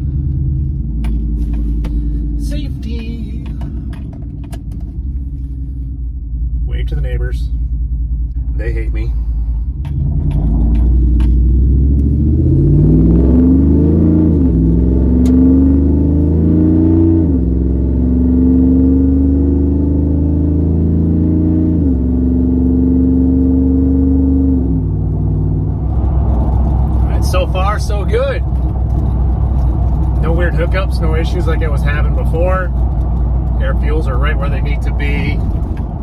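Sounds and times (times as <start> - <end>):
truck engine accelerating: 0.0 - 36.0.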